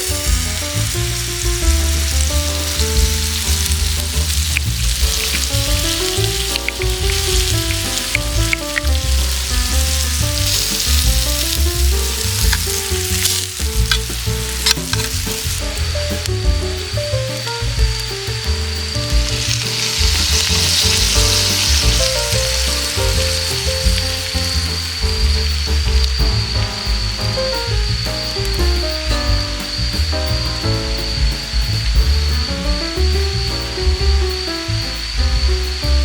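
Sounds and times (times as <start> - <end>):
food sizzling on a griddle: 0.0 - 32.4
crackles and pops: 0.0 - 36.0.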